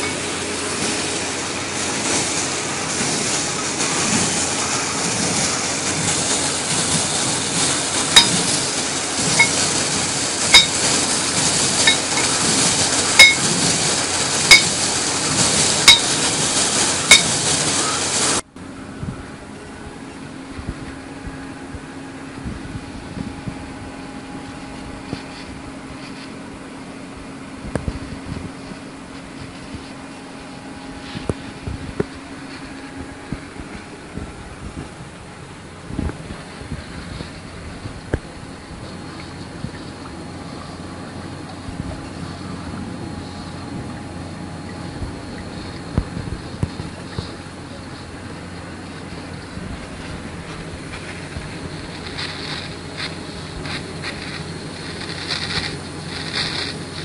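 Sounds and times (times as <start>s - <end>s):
low machine hum: 0.0s - 57.0s
water and air gushing from pipe: 0.0s - 57.0s.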